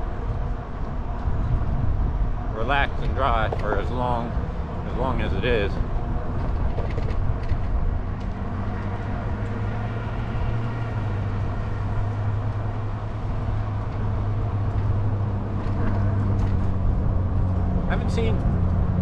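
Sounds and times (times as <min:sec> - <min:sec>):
continuous rumble: 0:00.0 - 0:19.0
e-bike tyre and motor hum: 0:00.0 - 0:19.0.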